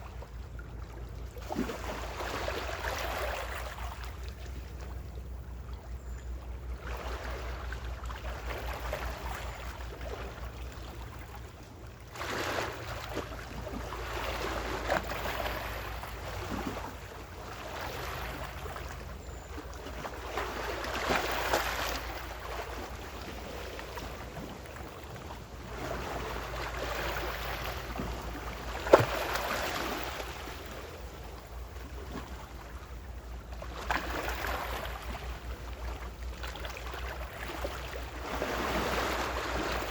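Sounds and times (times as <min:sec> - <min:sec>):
small waves washing onto shore: 0:06.8 - 0:19.2, 0:19.9 - 0:39.9.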